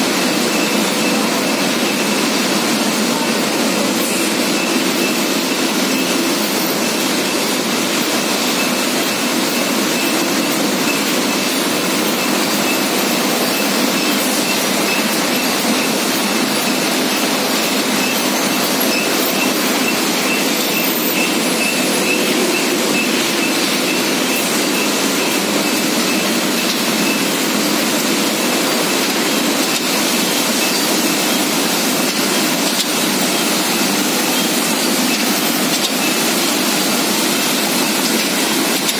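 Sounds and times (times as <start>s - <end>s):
production line machine din: 0.0s - 38.9s.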